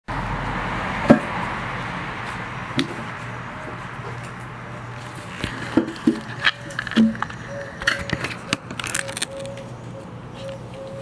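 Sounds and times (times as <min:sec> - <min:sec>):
steady background noise: 0:00.1 - 0:11.0.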